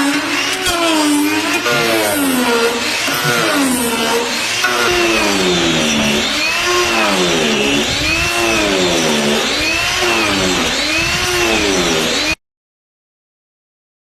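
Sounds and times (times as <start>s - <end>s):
angle grinder carving wood: 0.0s - 12.4s.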